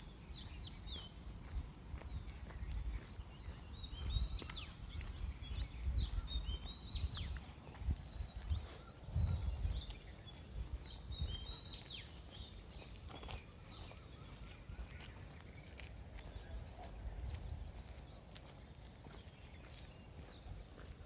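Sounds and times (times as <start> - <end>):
birds whistling and chirping: 0.0 - 1.2, 2.0 - 21.0.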